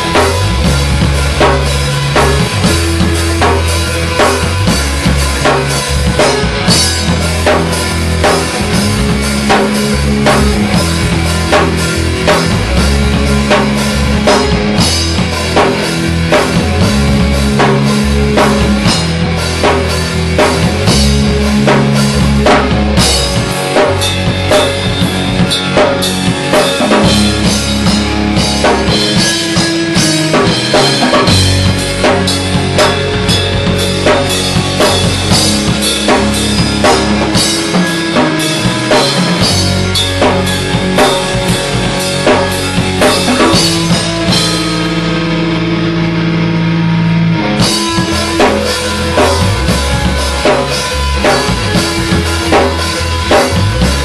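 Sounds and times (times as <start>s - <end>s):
drum kit pounding: 0.0s - 54.0s
electric guitar and bass chugging: 0.0s - 54.0s.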